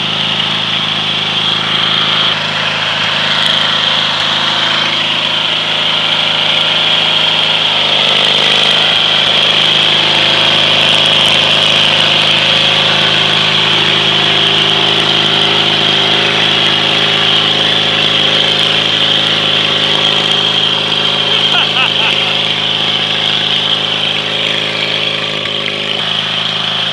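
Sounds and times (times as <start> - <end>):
lawn tractor engine running: 0.0 - 26.9
tires spinning in mud: 0.0 - 26.9.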